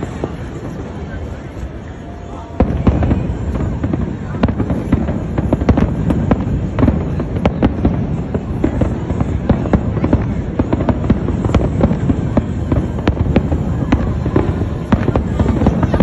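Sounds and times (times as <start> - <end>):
fireworks booming: 0.0 - 16.0
fireworks cracking: 0.0 - 16.0.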